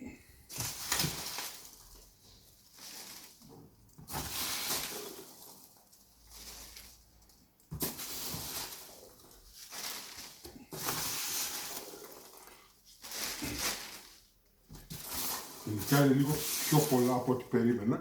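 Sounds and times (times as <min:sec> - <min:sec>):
polystyrene foam rustling: 0:00.2 - 0:18.0.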